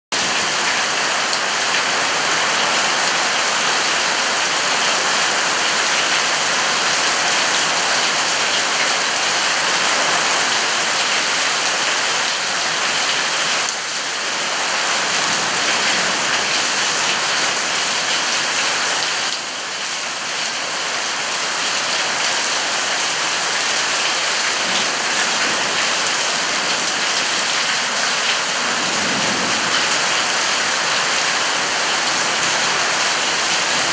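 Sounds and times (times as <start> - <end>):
heavy rain on patio and pool: 0.1 - 33.9.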